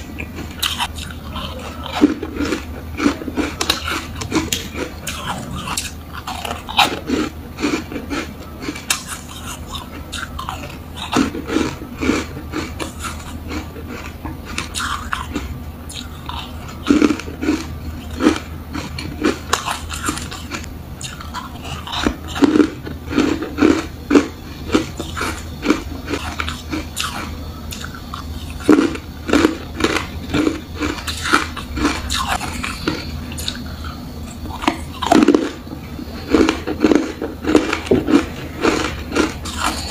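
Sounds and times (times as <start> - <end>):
foam crunching being chewed: 0.0 - 39.9.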